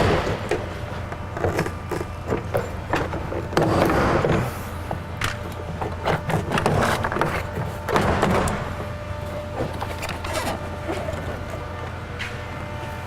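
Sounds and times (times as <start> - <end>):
panel creaking and rubbing: 0.9 - 12.4.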